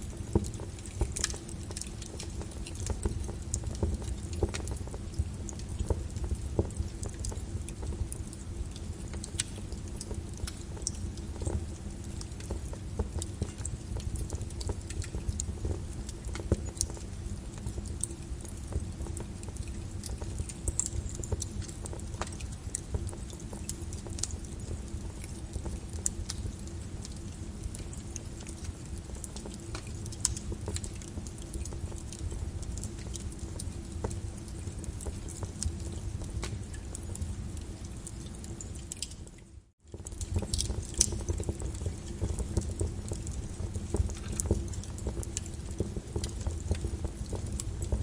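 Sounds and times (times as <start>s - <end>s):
lava crust cracking and clinking: 0.0s - 48.0s.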